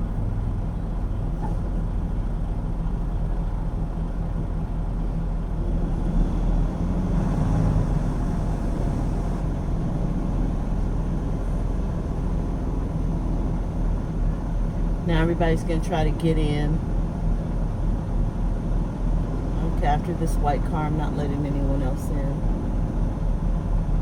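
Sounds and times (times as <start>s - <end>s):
low hum: 0.0s - 24.0s
truck engine and road noise: 0.0s - 24.0s.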